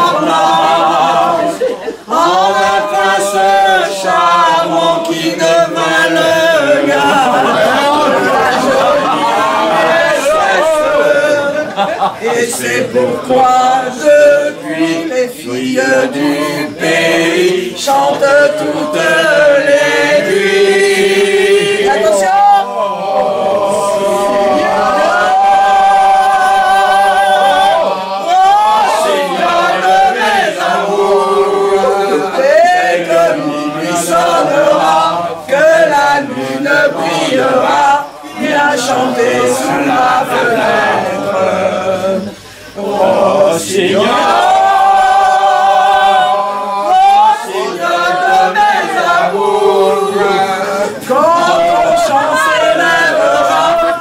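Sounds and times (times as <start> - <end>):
man and woman singing: 0.0 - 54.0.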